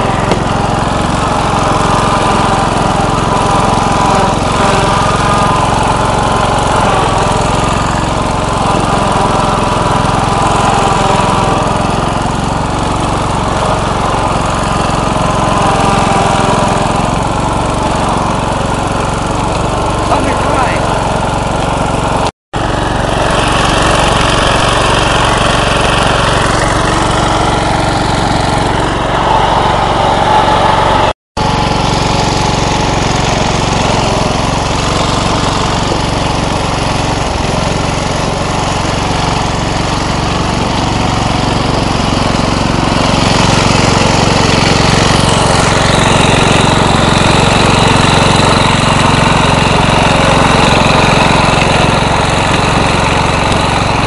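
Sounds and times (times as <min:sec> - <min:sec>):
riding lawn mower engine running: 0:00.0 - 0:54.0.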